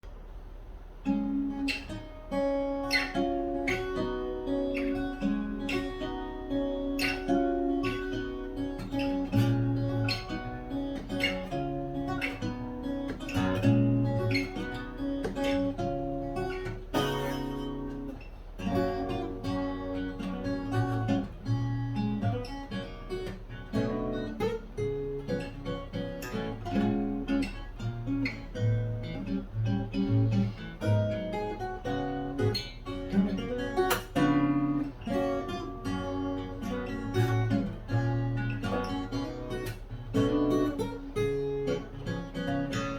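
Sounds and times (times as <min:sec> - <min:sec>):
fingerstyle acoustic guitar: 0:00.0 - 0:42.9.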